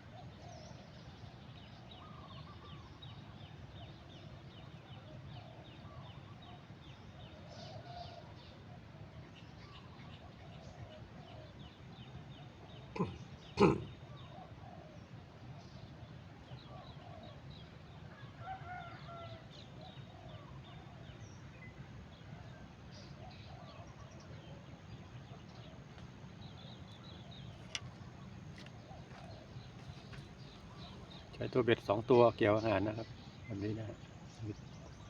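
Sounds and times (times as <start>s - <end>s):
lower bird calls: 0.0s - 35.0s
steady low background hum: 0.0s - 35.0s.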